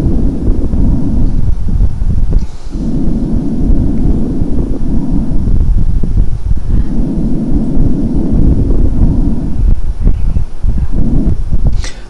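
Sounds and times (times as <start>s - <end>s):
fine crackles: 0.0s - 12.0s
rushing breath sound: 0.0s - 12.0s.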